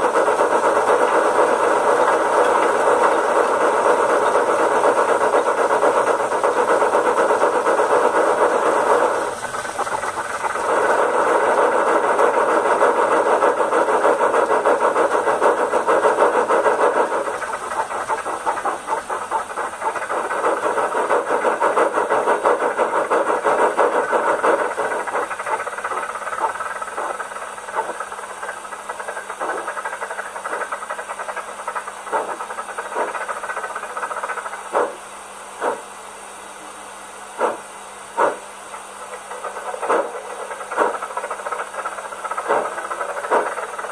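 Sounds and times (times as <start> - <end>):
steam locomotive sound from small speaker: 0.0 - 43.9.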